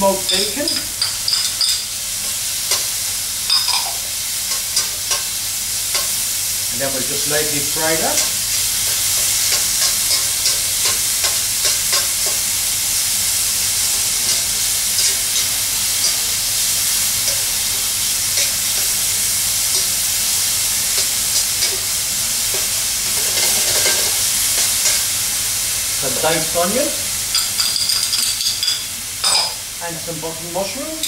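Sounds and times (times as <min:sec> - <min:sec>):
meat sizzling in a pan: 0:00.0 - 0:31.0.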